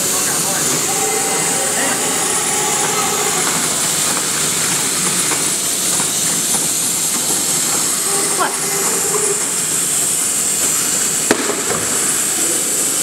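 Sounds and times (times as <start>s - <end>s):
loud machine hissing: 0.0s - 13.0s.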